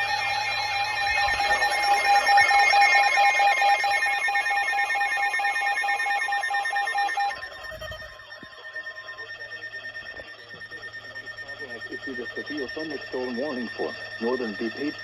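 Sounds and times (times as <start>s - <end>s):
shrill electronic alert tones: 0.0s - 15.0s
warbling buzz: 0.0s - 15.0s.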